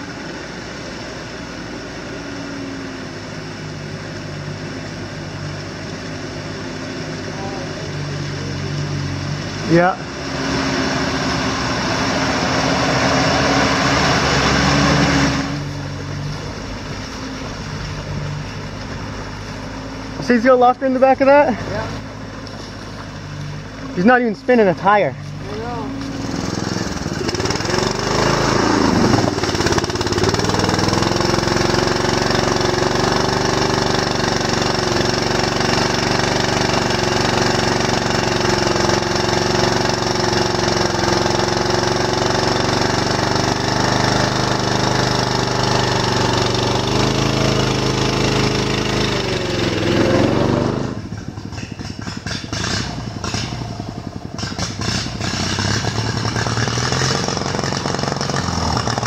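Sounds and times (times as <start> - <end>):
lawn mower engine revving: 0.0 - 59.0.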